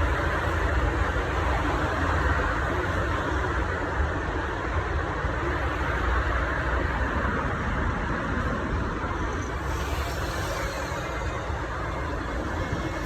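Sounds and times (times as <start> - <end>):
road vehicle rumbling: 0.0 - 13.0.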